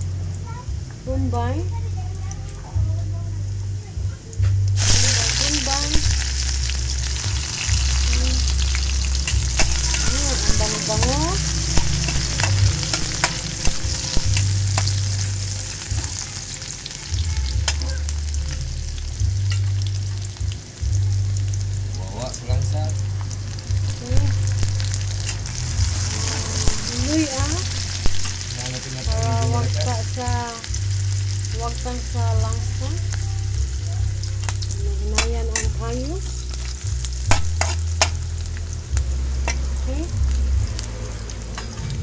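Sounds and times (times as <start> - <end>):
garlic and onions sizzling in oil: 0.0 - 42.0
low rumble: 0.0 - 42.0.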